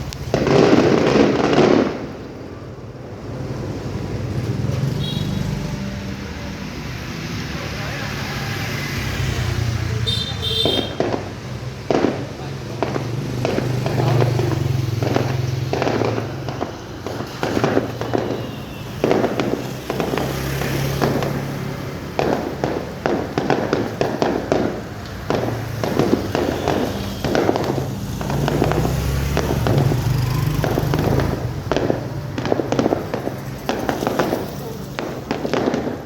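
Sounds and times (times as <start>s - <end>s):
fireworks bursting with crackling: 0.0s - 36.0s.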